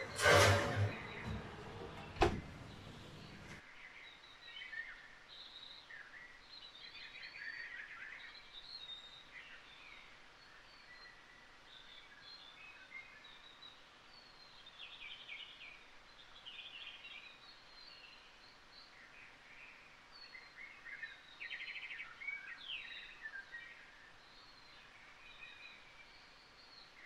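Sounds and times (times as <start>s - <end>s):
faint birds chirping: 0.0s - 27.0s.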